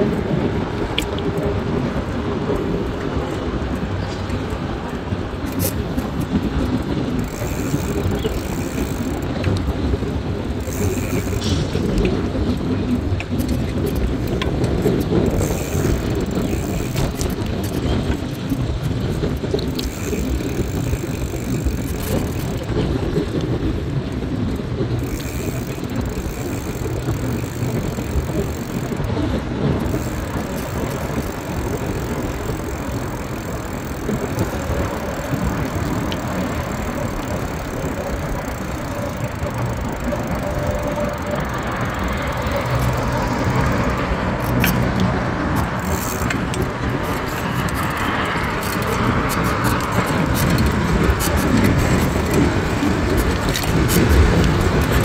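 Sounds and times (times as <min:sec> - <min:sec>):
sharp clicks and clatter: 0:00.0 - 0:55.0
traffic rumble of engines and tyres: 0:00.0 - 0:55.0.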